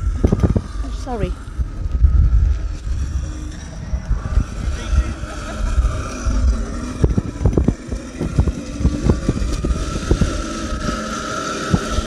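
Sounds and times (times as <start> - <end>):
model tank motor whine: 0.0 - 12.0.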